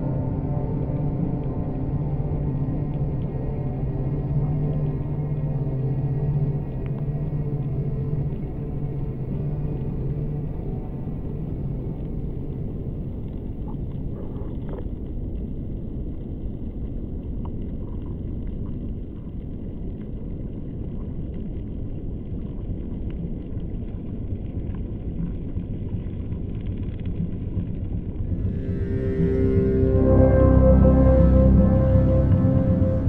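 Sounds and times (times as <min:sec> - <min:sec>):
low underwater rumble: 0:00.0 - 0:33.0
faint underwater clicks: 0:00.5 - 0:28.2.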